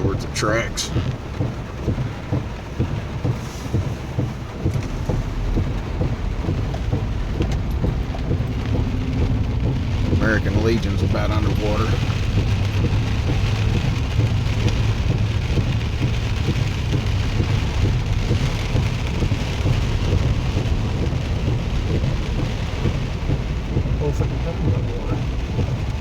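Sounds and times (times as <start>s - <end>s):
heavy rain on a truck: 0.0s - 26.0s
moving truck rumble: 0.0s - 26.0s.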